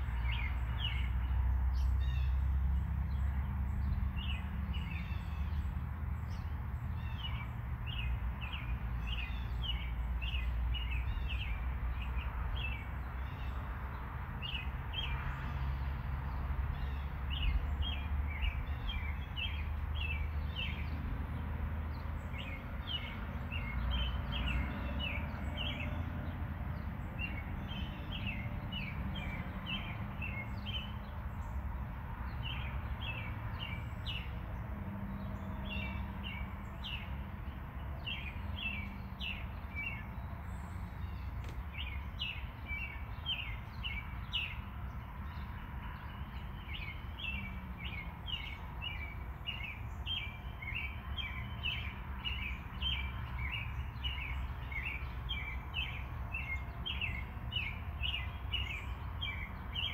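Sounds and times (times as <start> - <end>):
small birds chirping: 0.0 - 13.7, 14.4 - 59.9.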